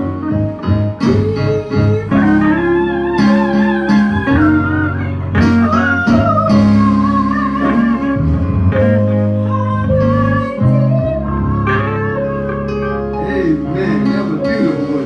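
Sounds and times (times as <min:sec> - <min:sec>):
held bass notes: 0:00.0 - 0:15.0
slow instrumental guitar: 0:00.0 - 0:15.0.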